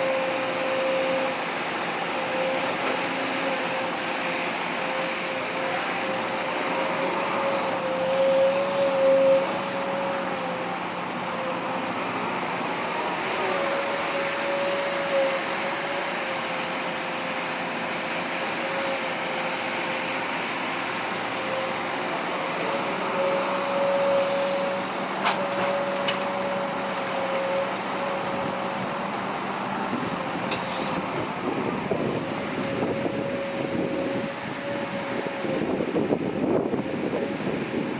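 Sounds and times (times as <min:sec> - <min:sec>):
diesel machinery running: 0:00.0 - 0:37.9.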